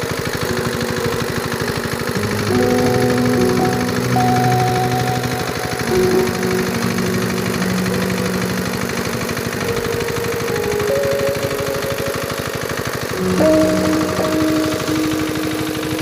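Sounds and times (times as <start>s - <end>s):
diesel engine running: 1.0s - 16.0s
background music: 2.1s - 16.0s.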